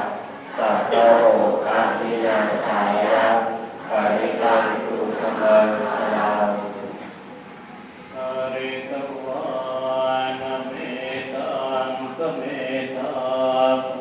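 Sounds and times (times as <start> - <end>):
men chanting in unison: 0.0 - 6.9, 8.2 - 14.0.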